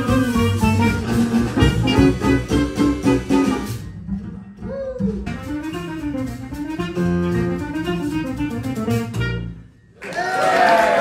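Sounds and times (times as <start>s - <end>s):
clarinet melody: 0.0s - 3.9s, 4.6s - 9.8s
plucked double bass: 0.0s - 9.6s
piano: 0.0s - 9.9s.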